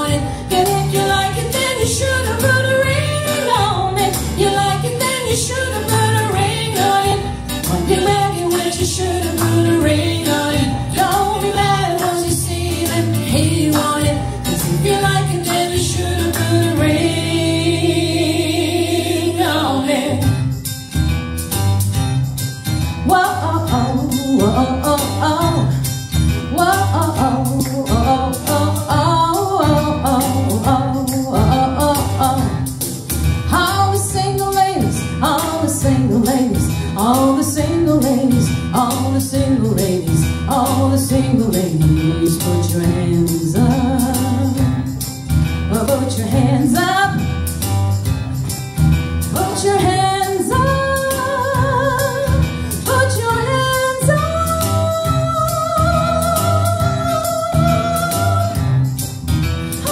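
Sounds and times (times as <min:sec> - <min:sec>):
woman singing: 0:00.0 - 0:20.4, 0:23.0 - 0:25.8, 0:26.5 - 0:32.7, 0:33.5 - 0:44.8, 0:45.7 - 0:47.3, 0:49.3 - 0:58.7.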